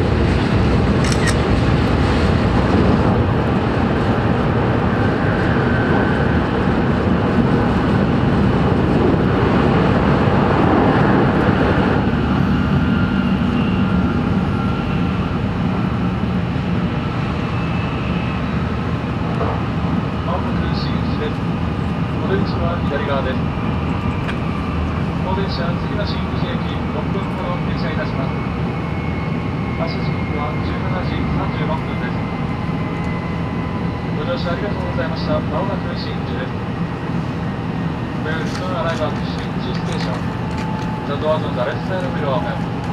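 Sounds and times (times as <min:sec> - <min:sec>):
train running rumble: 0:00.0 - 0:42.9.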